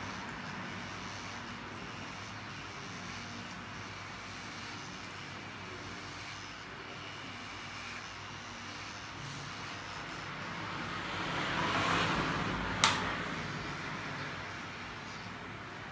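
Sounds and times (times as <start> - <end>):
electric hair clippers buzzing: 0.0 - 15.4.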